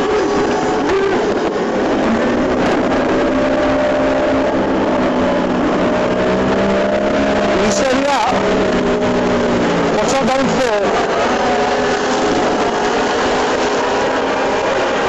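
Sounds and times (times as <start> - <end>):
boat motor running: 0.0 - 15.0
rush of wind and water: 0.0 - 15.0.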